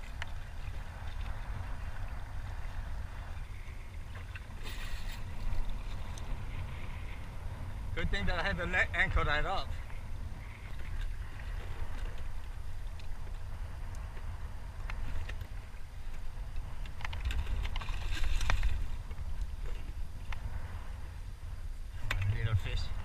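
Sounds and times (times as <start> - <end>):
water sloshing against kayak: 0.0 - 23.0
wind rumbling on microphone: 0.0 - 23.0.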